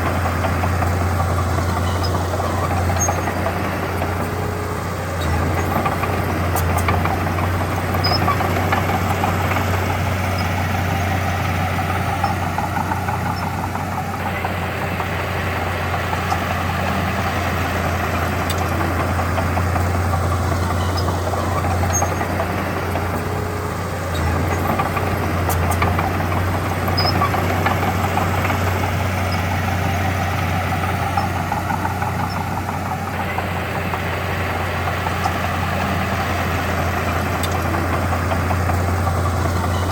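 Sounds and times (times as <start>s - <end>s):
heavy diesel engine humming: 0.0s - 39.9s.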